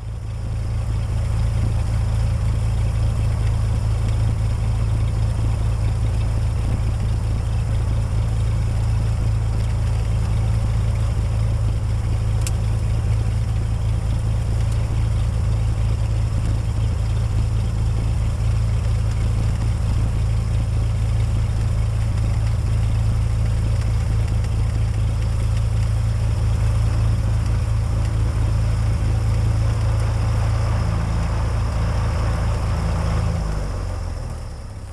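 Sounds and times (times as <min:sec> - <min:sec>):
airplane engine drone in cabin: 0:00.0 - 0:34.9.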